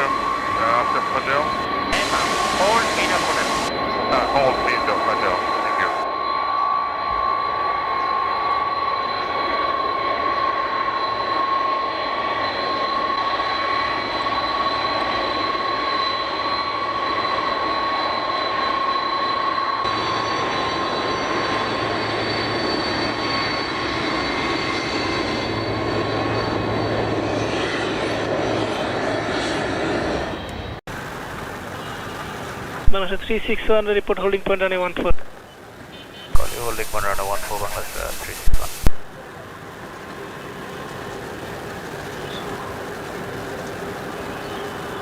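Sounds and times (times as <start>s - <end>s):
jet engines roaring and whining: 0.0s - 45.0s.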